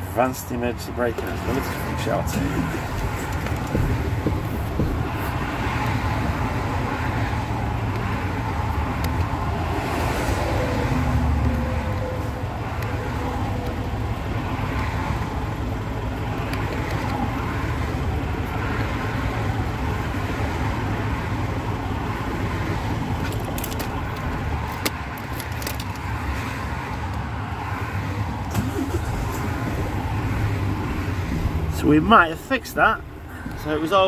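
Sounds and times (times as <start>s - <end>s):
truck engine rumbling: 0.0s - 34.0s.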